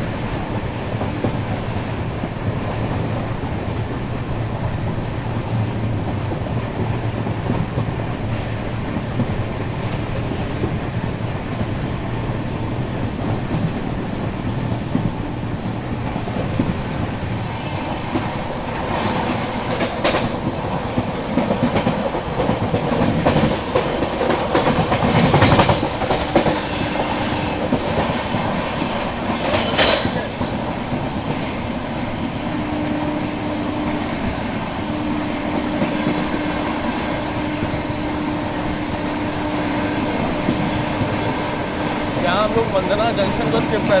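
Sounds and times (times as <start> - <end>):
train wheels clacking on track: 0.0 - 44.0.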